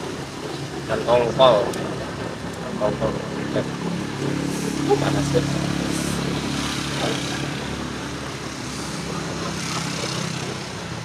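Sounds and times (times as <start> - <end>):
motorcycle engines passing: 0.0 - 11.0.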